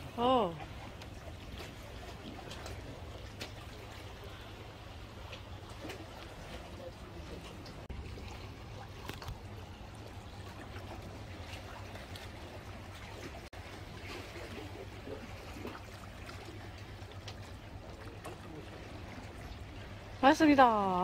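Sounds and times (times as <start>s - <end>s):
water lapping against rocks: 0.0s - 21.0s.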